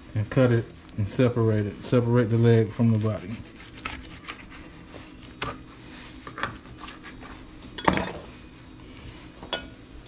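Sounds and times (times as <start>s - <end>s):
soft rubbing of raw chicken: 0.0s - 10.0s.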